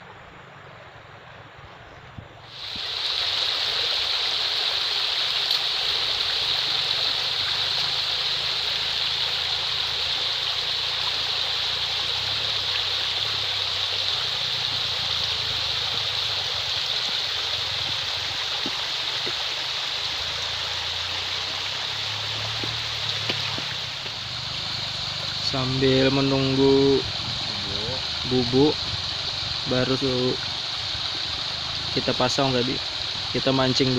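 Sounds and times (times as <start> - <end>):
river water flowing: 0.0 - 33.9.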